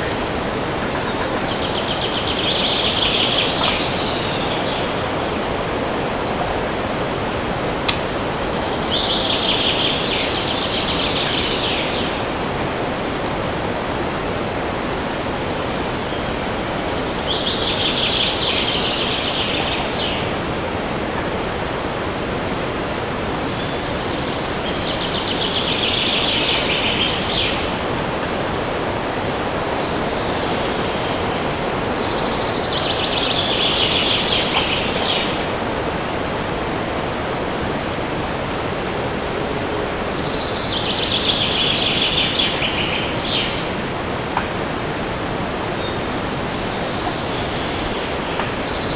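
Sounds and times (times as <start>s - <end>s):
wind rushing through trees: 0.0s - 48.9s.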